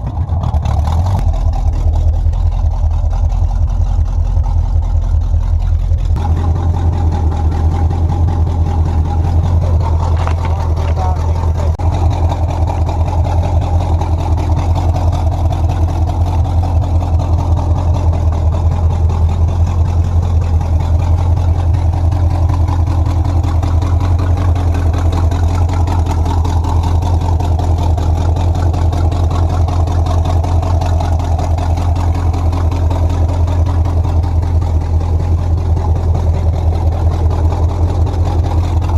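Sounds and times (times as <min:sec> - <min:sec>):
pickup engine idling: 0:00.0 - 0:38.9.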